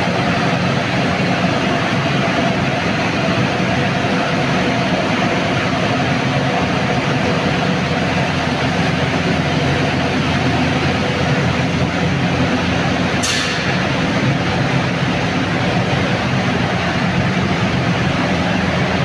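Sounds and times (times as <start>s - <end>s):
furnace burner and blower rushing: 0.0s - 19.0s.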